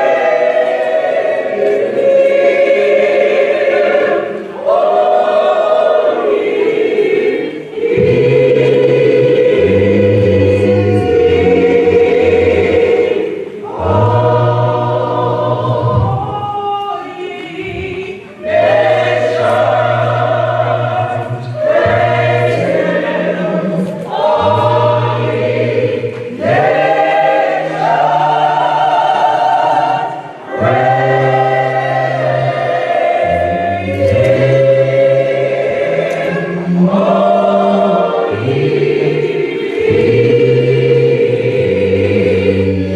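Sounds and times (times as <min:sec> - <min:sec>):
gospel choir singing a hymn: 0:00.0 - 0:42.9.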